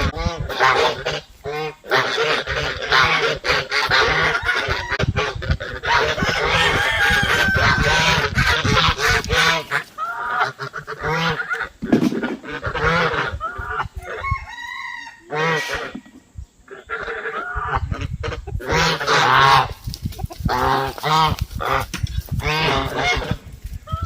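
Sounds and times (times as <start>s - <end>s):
poultry calling: 0.0s - 24.0s.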